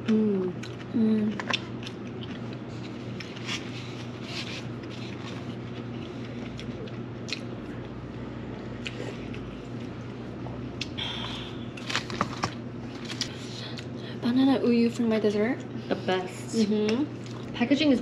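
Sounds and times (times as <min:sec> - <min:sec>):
people chewing: 0:00.0 - 0:14.0, 0:16.6 - 0:17.6
steady low hum: 0:00.0 - 0:18.0.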